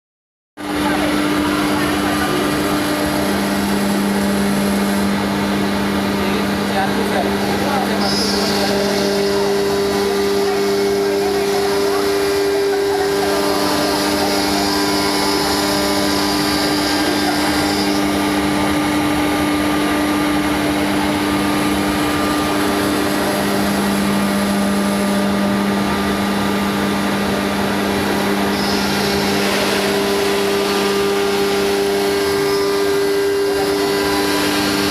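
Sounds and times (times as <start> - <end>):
wood router cutting wood: 0.6 - 34.9.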